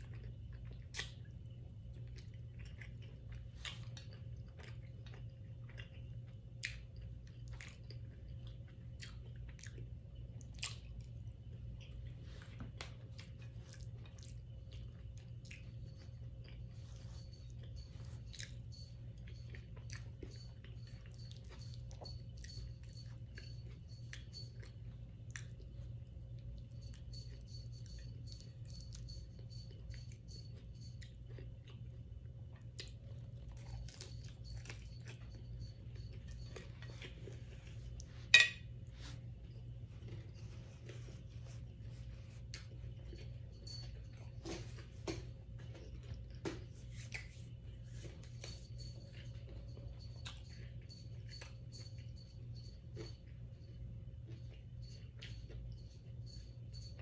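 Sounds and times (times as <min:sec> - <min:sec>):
person chewing food: 0:00.0 - 0:56.4
low hum: 0:00.0 - 0:57.0.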